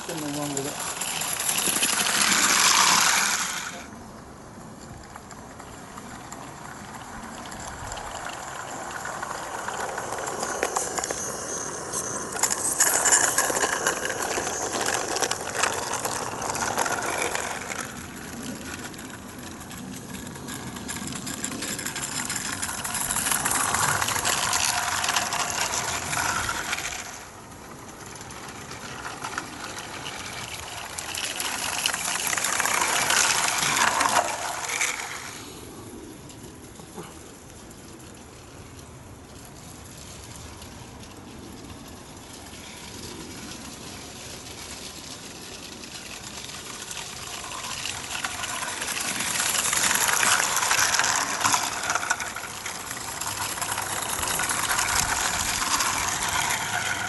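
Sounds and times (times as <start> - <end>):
model train wheels clicking on track: 0.0 - 57.0.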